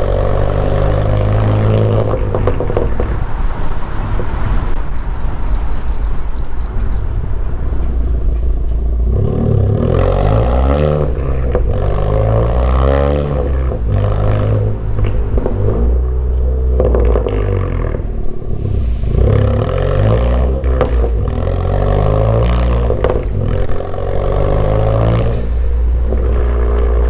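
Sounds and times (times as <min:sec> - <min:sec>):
car engine accelerating: 0:00.0 - 0:04.8, 0:07.2 - 0:27.0.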